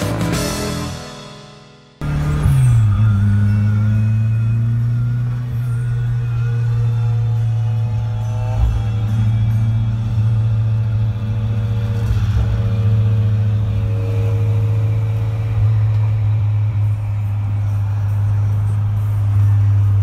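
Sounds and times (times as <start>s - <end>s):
car engine drone inside cabin: 2.0s - 20.0s.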